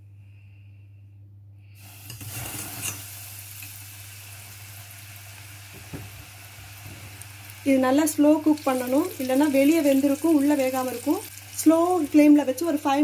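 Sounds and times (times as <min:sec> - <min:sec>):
oil sizzling: 0:01.8 - 0:13.0.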